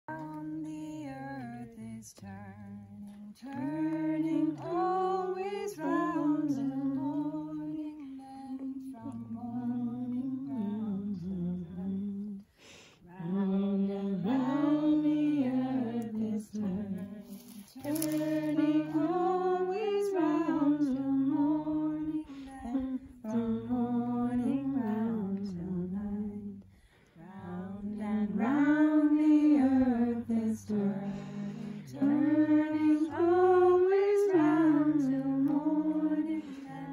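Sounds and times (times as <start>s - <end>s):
group of voices singing: 0.1s - 36.9s.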